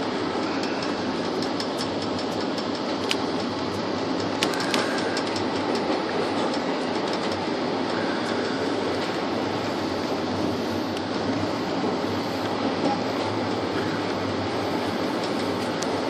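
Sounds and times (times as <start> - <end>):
wheels clicking over rail joints: 0.0 - 9.4, 12.4 - 16.0
train wheels rumbling on rails: 0.0 - 16.0.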